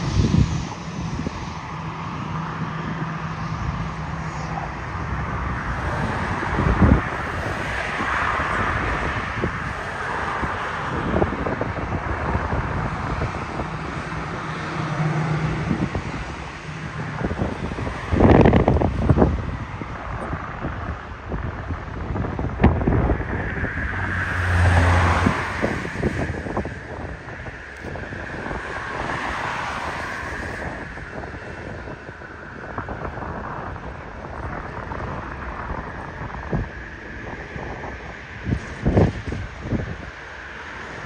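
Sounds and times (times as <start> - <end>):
jet engines rumbling: 0.0 - 41.0
wind buffeting microphone: 0.0 - 41.0.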